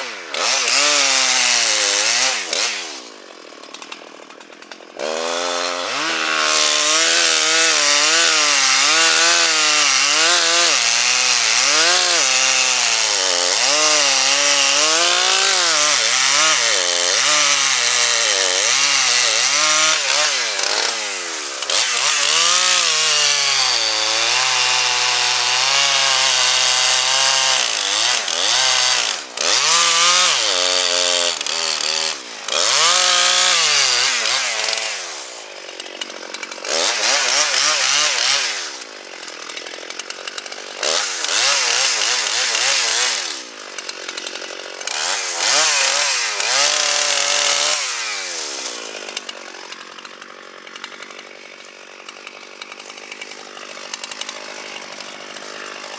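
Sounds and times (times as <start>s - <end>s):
chainsaw engine revving: 0.0s - 55.9s.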